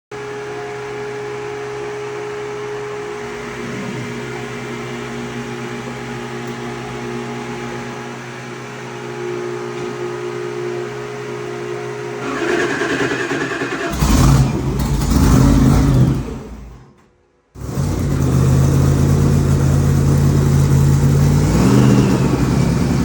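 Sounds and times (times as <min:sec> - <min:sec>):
electric machinery hum: 0:00.2 - 0:23.0.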